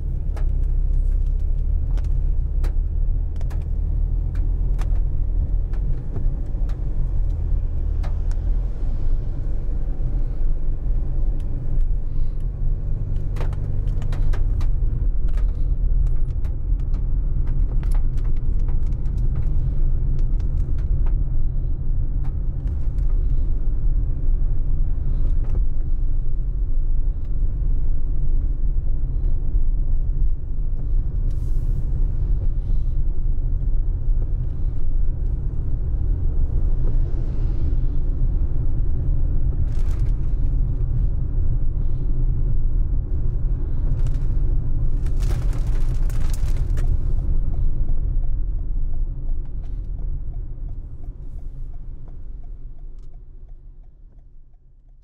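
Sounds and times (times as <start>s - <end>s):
raindrops ticking on windscreen: 0.0s - 32.5s, 33.5s - 55.0s
car road and engine rumble: 0.0s - 55.0s.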